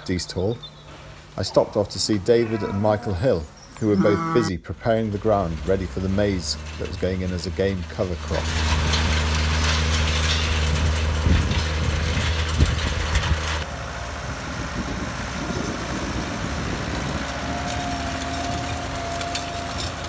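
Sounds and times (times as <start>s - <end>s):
tractor engine: 0.0s - 20.0s
tractor running steadily: 3.3s - 20.0s.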